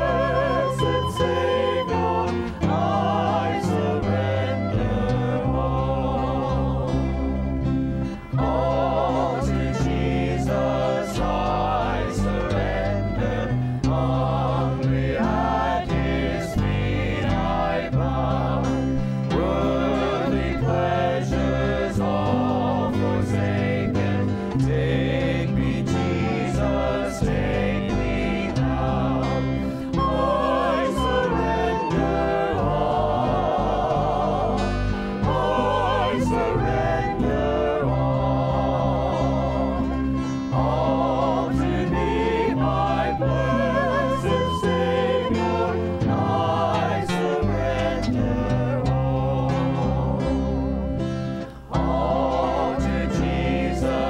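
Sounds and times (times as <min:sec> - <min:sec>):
acoustic guitars: 0:00.0 - 0:54.0
group singing a hymn: 0:00.0 - 0:54.0.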